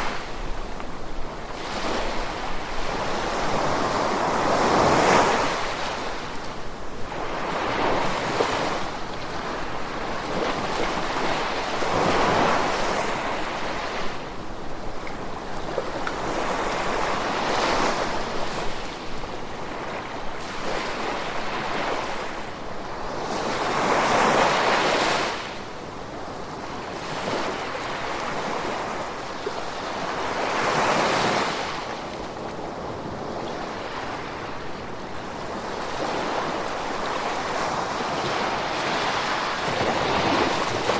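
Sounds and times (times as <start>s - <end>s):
gentle ocean waves: 0.0s - 40.9s.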